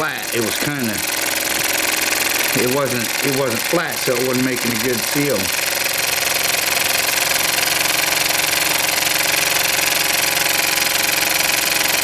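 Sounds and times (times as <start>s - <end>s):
steam engine running: 0.0s - 12.0s.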